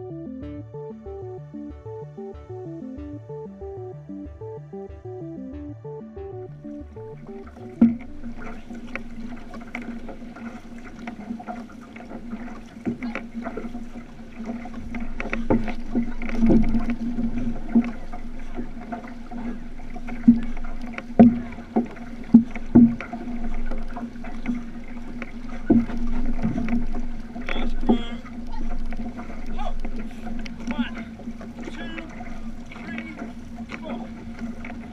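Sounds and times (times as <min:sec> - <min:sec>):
water splashing along canoe hull: 0:00.0 - 0:34.9.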